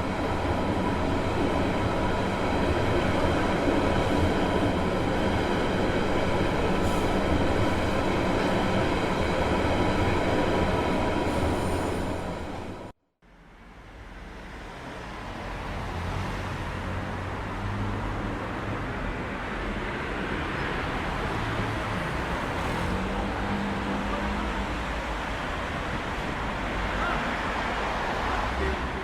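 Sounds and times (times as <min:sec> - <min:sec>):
loud city din with whining tones: 0:00.0 - 0:29.0.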